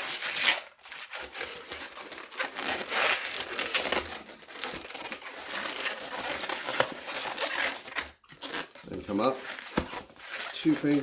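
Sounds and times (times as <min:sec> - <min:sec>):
rubbery balloon squeaks and crinkling: 0:00.0 - 0:11.0.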